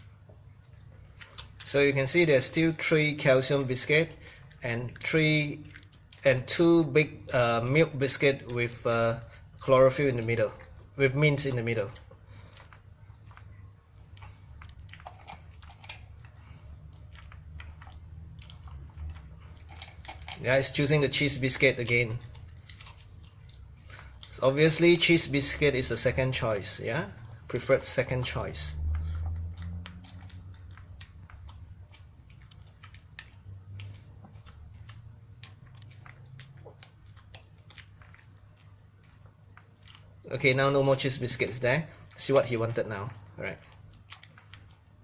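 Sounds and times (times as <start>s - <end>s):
dog crunching a dry biscuit: 0.0s - 45.0s.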